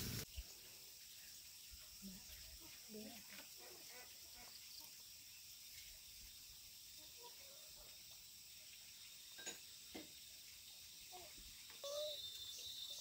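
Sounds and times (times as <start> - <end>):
high-pitched insect hum: 0.0 - 13.0.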